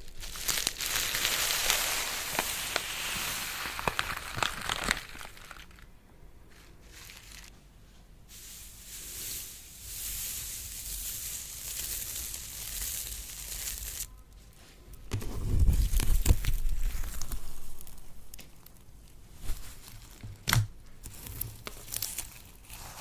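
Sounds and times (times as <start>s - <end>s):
slime crackling and squishing: 0.0s - 5.9s, 6.5s - 7.5s, 8.3s - 14.1s, 15.7s - 23.0s.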